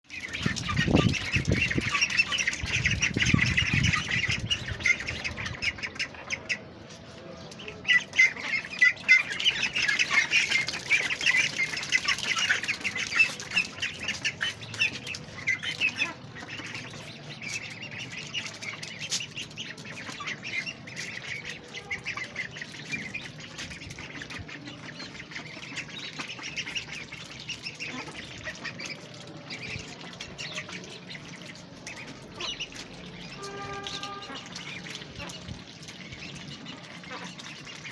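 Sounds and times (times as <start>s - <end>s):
ducks quacking: 0.0s - 37.9s.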